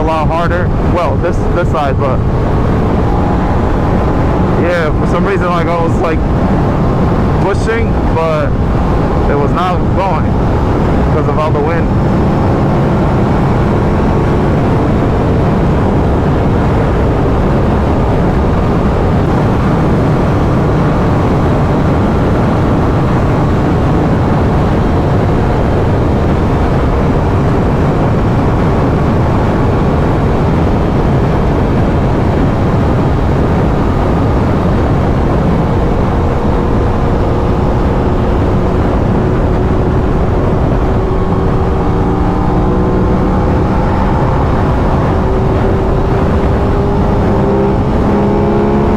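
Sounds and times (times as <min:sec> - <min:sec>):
motorcycle engine cruising: 0:00.0 - 0:48.9
wind rush on microphone: 0:00.0 - 0:48.9.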